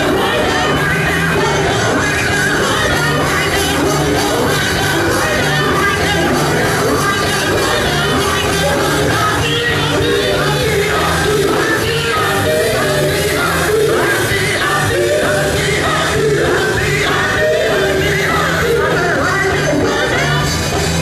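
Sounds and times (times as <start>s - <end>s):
amplified band playing: 0.0s - 21.0s
male group singing: 0.0s - 21.0s
repeating bass line: 0.0s - 21.0s.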